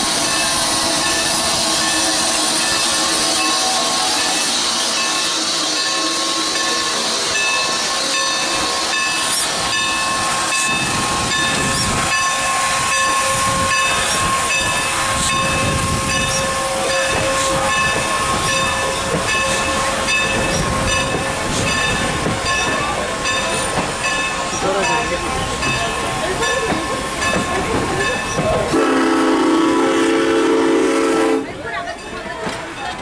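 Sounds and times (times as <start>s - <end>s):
steam locomotive hissing: 0.0s - 33.0s.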